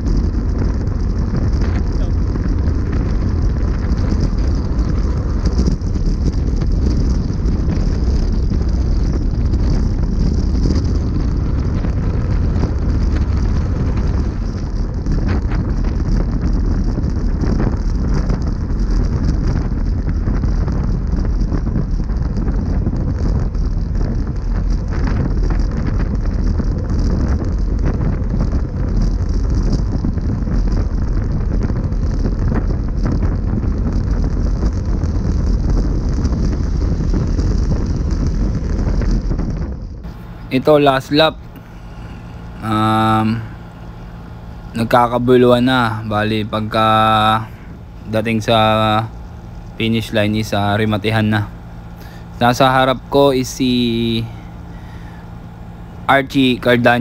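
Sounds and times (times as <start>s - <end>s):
rumbling wind noise on microphone: 0.0s - 57.0s.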